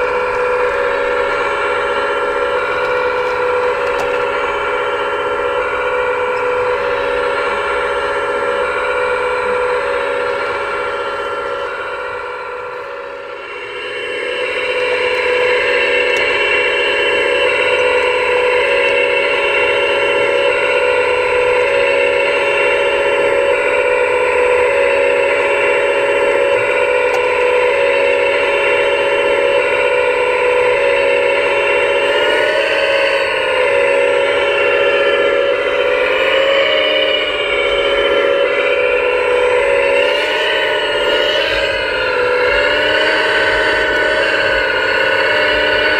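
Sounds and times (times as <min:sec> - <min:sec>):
rc machine motor whine: 0:00.0 - 0:45.9.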